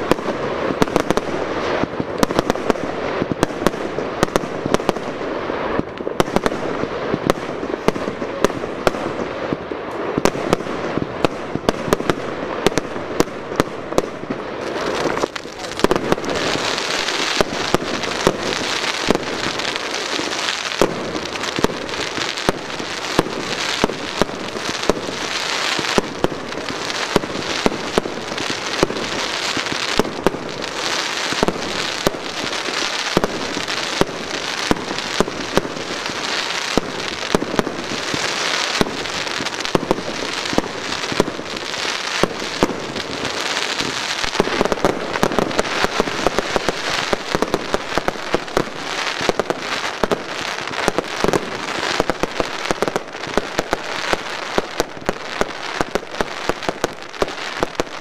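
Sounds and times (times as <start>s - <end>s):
fireworks bangs: 0.0s - 58.0s
fireworks hissing and crackling: 0.0s - 58.0s.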